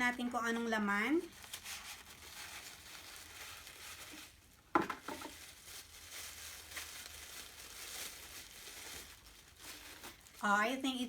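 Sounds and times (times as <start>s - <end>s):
wrapping rustling and crinkling: 0.0s - 11.0s.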